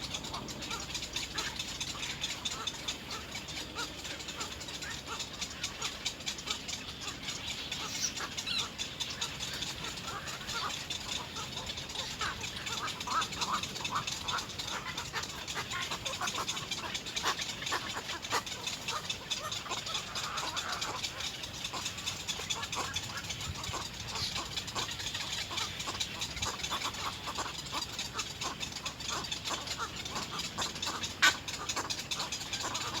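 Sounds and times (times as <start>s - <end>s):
chicks begging calls: 0.0s - 33.0s.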